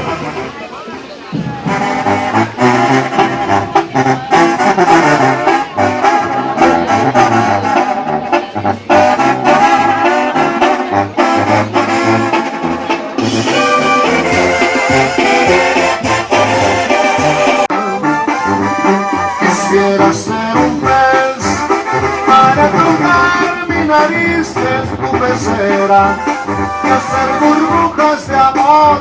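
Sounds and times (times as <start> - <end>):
steady percussion: 0.0 - 29.0
trombone and trumpet melody: 0.0 - 29.0
stepping bass line: 1.4 - 29.0.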